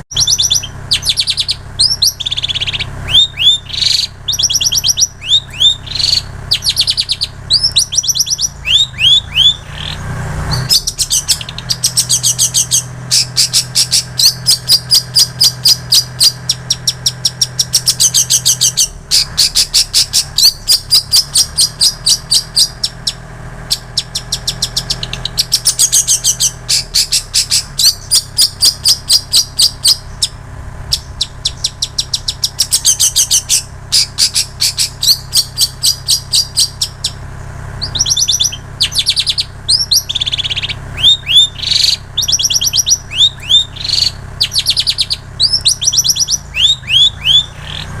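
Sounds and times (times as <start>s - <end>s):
shrike chirping and whistling: 0.0s - 48.0s.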